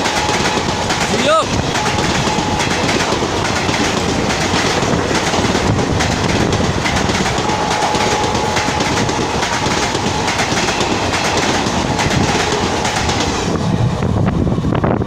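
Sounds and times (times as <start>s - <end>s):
train wheels clattering: 0.0s - 13.8s.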